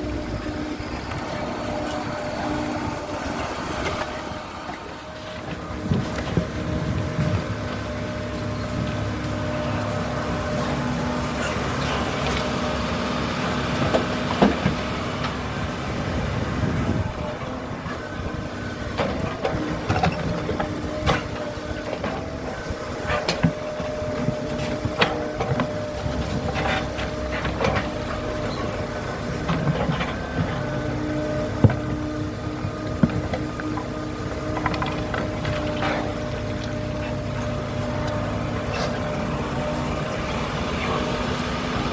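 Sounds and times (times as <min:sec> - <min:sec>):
excavator diesel engine: 0:00.0 - 0:41.9.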